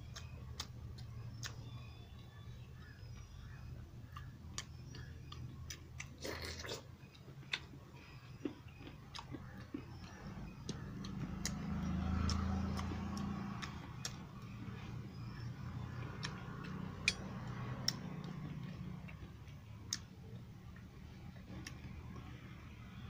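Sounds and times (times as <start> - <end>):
wet chewing and lip smacks: 0.1 - 3.4, 4.0 - 22.5.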